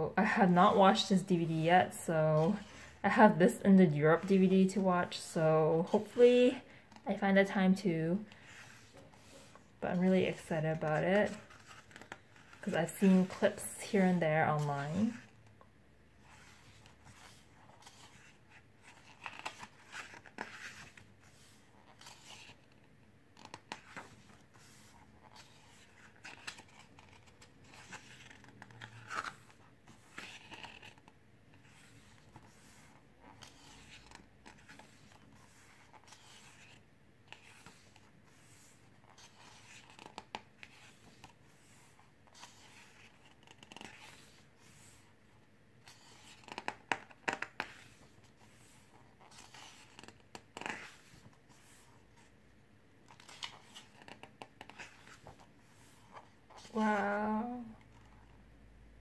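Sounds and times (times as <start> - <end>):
pages turning: 8.3 - 15.6, 16.2 - 52.4, 53.0 - 58.3.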